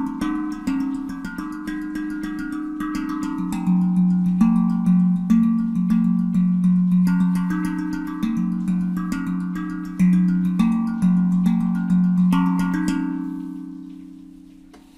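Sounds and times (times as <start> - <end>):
handpan notes ringing: 0.0 - 14.9.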